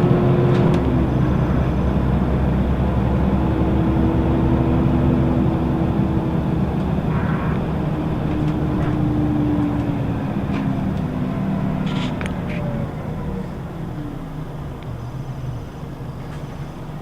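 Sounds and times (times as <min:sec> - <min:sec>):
bus engine rumble: 0:00.0 - 0:17.0
drivetrain whine: 0:00.0 - 0:17.0.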